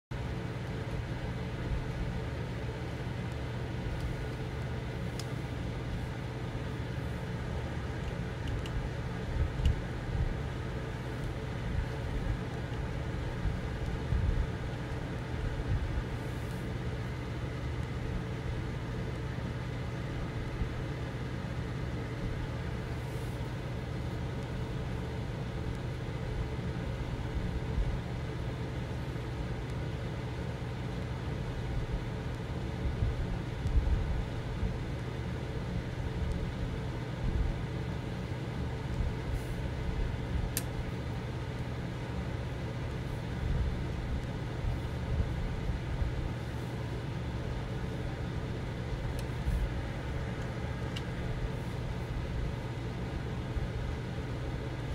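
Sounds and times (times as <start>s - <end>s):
low mechanical hum: 0.0s - 54.9s.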